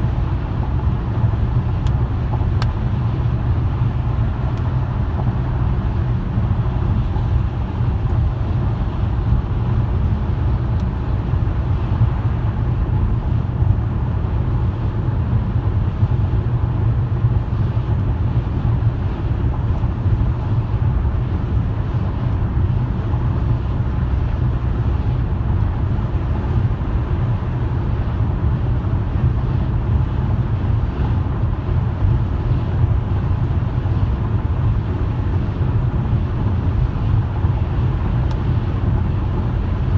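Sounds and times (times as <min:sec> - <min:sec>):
car engine rumble: 0:00.0 - 0:39.9
tyre road noise: 0:00.0 - 0:39.9.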